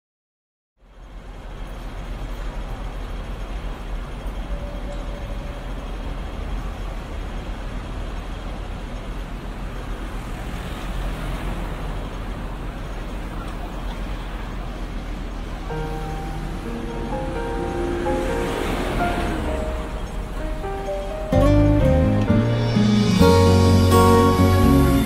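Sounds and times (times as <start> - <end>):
distant city traffic: 0.8 - 25.0.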